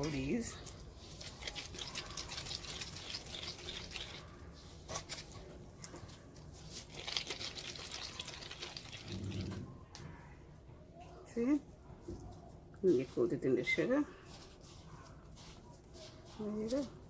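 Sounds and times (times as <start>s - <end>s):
sugar crunching and rustling: 0.0s - 9.6s, 11.8s - 17.0s.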